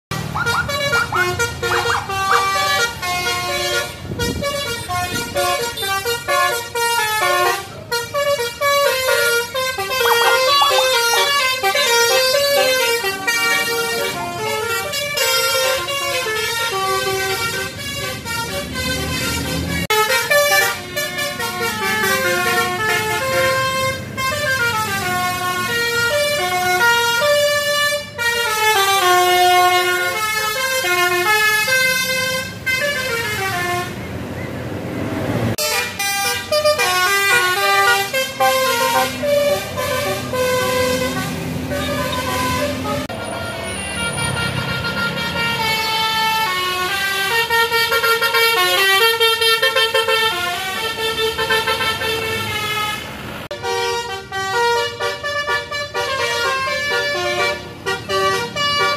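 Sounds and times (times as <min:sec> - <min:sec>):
musical bus horns: 0:00.1 - 0:34.6, 0:35.5 - 0:58.9.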